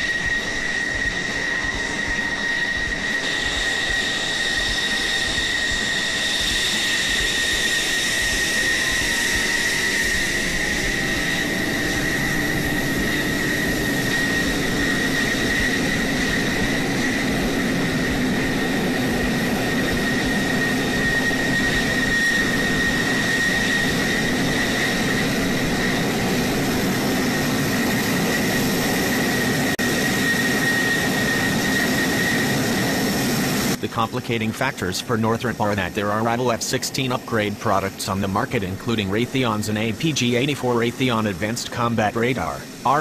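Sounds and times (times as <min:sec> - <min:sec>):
jet engines running: 0:00.0 - 0:43.0.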